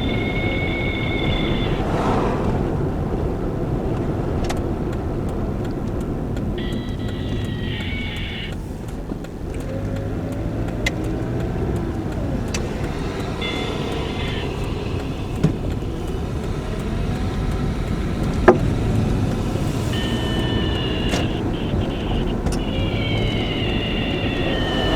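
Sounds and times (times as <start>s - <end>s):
car engine running: 0.0s - 24.9s.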